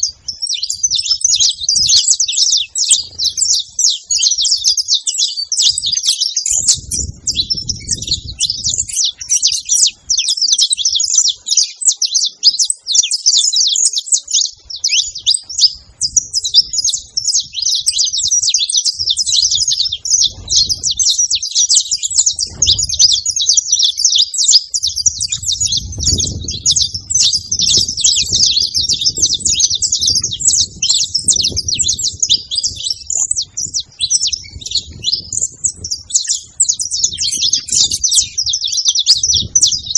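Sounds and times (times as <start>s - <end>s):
finch chirping rapidly: 0.0s - 39.9s.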